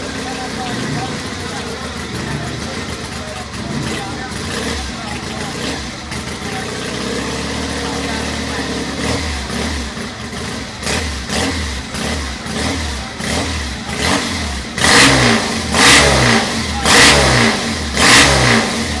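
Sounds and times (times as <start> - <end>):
motorcycle engine idling: 0.0 - 19.0
motorcycle engine revving hard: 0.0 - 19.0.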